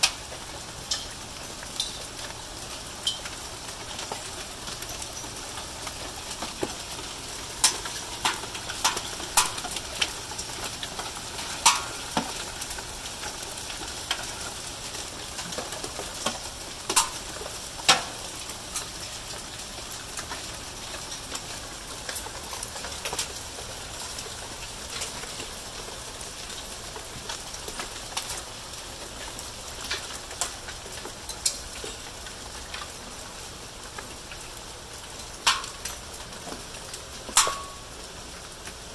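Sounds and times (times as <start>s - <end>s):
hail falling: 0.0s - 38.9s
hailstones clacking on hard surfaces: 0.0s - 38.9s.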